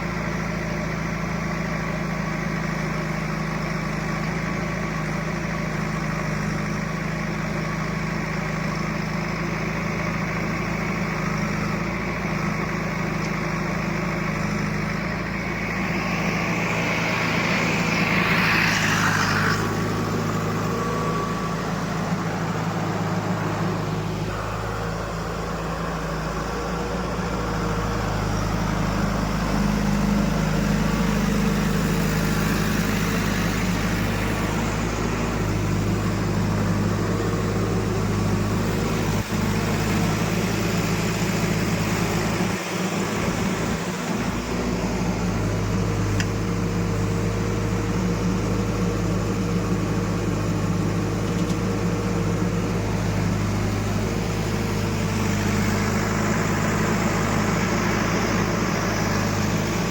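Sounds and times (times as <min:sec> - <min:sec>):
heavy diesel engine running: 0:00.0 - 0:59.9
high engine whine: 0:00.0 - 0:59.9.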